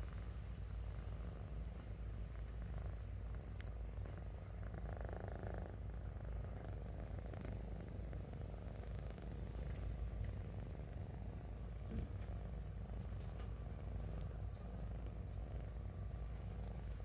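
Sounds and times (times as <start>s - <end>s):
kitten purring: 0.0s - 17.0s.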